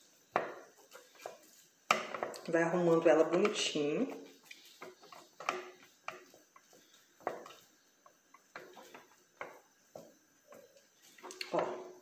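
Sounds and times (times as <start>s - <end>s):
fingers patting meat in a pan: 0.3s - 11.6s.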